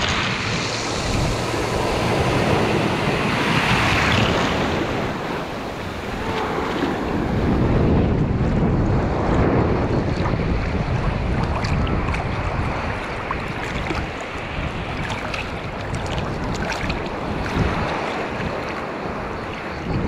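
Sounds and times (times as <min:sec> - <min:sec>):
sea surf washing ashore: 0:00.0 - 0:20.0
wind rumbling on microphone: 0:00.0 - 0:20.0.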